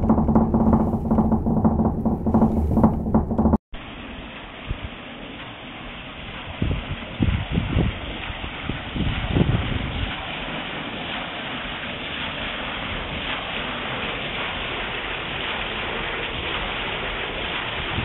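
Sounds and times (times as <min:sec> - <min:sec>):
water rushing onto waterwheel: 0:00.0 - 0:18.0.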